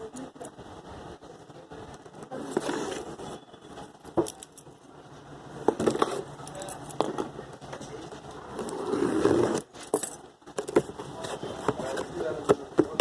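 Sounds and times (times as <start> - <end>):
handling rustling: 1.9 - 13.0.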